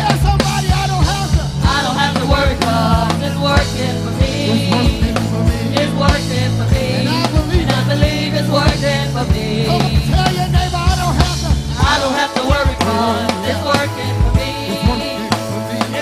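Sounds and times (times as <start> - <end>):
bass line: 0.0 - 16.0
drum beat: 0.0 - 16.0
singers on microphones: 0.0 - 16.0.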